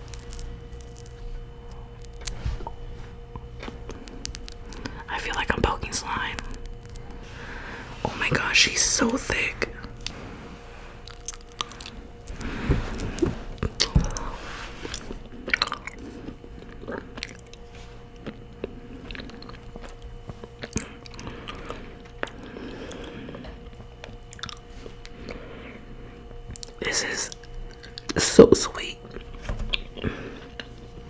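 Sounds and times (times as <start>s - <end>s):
chewing honeycomb: 0.0s - 31.0s.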